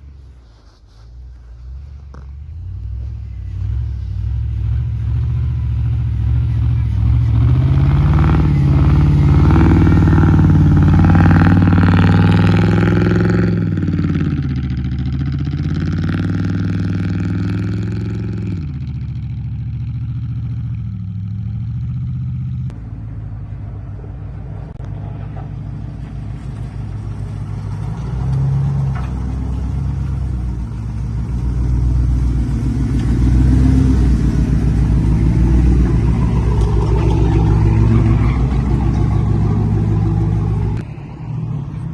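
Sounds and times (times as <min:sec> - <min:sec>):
pickup truck engine revving: 0:01.4 - 0:41.9.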